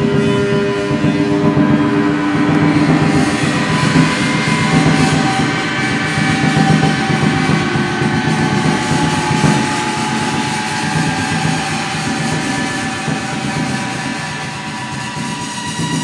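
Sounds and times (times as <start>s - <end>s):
steady ringing tones: 0.0s - 16.0s
stick grinding on drum and metal: 0.0s - 16.0s.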